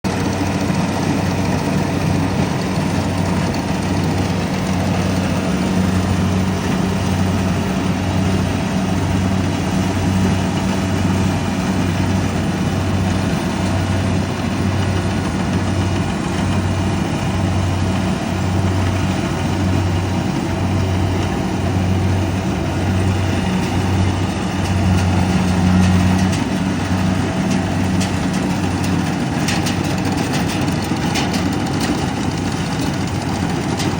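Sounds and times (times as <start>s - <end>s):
harvester engine pulsing hum: 0.1s - 33.9s.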